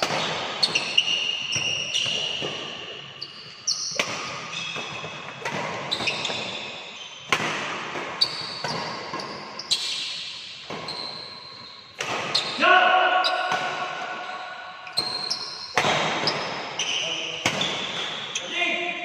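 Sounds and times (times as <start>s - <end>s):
racket hitting shuttlecock: 0.0s - 16.8s, 17.4s - 18.4s
shoes squeaking on court: 0.0s - 18.6s.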